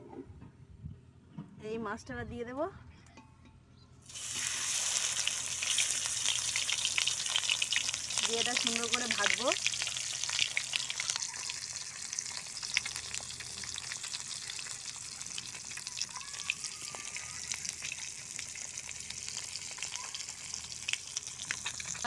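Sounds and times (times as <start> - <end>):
fish frying in hot oil: 4.1 - 22.0.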